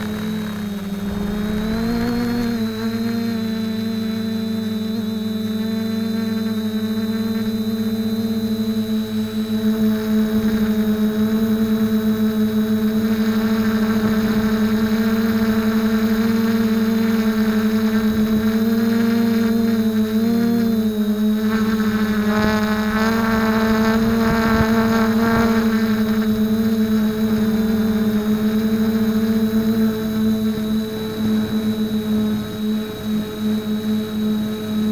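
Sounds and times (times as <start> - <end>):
drone propellers whining: 0.0 - 34.9
higher whine: 0.0 - 34.9.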